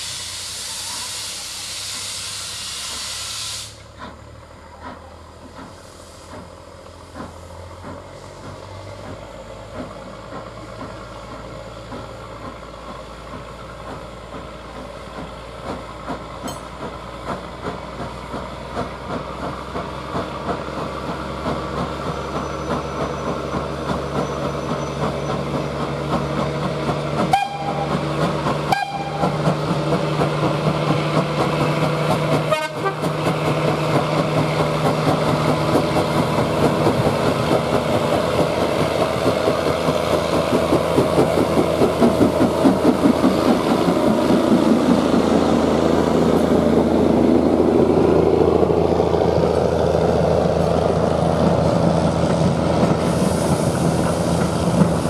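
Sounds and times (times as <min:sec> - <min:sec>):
steam locomotive chuffing: 0:00.0 - 0:55.0
train coaches rolling by: 0:00.0 - 0:55.0.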